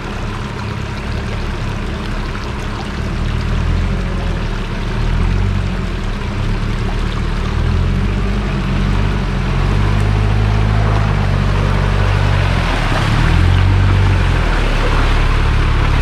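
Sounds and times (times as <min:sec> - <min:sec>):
engine running low: 0:00.0 - 0:16.0
river water rushing: 0:00.0 - 0:16.0.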